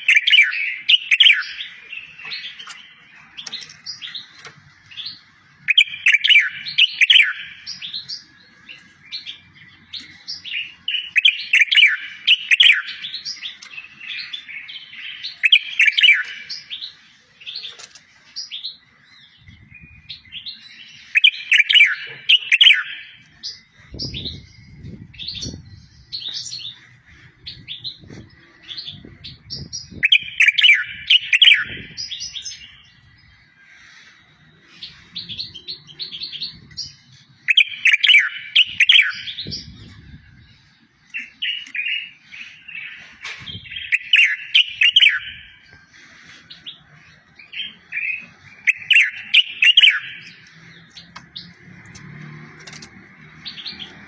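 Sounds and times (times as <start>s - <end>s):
bird chirps: 0.0s - 54.0s
songbird singing trills: 0.0s - 54.0s.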